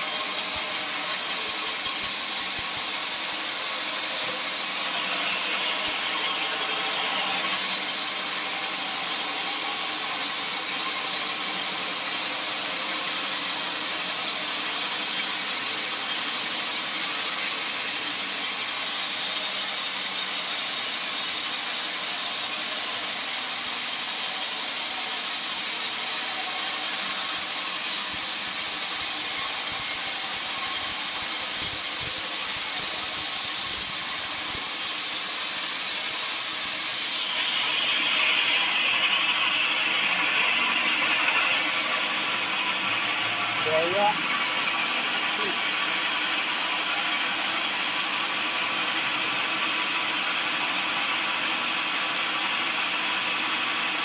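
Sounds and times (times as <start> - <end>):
saw running with high whine: 0.0 - 54.0.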